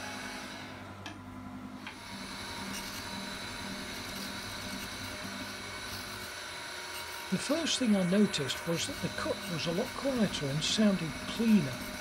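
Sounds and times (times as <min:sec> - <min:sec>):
surface grinder humming: 0:01.8 - 0:12.0.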